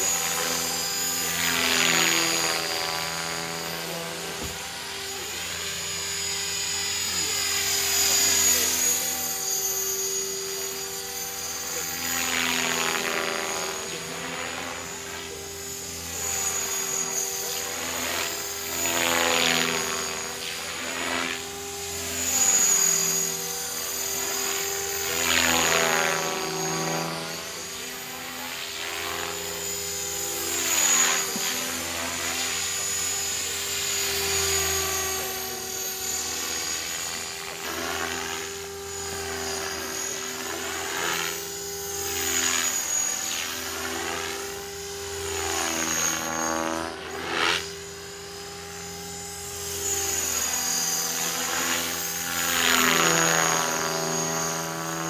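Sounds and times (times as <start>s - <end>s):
model helicopter rotor whine: 0.0s - 55.0s.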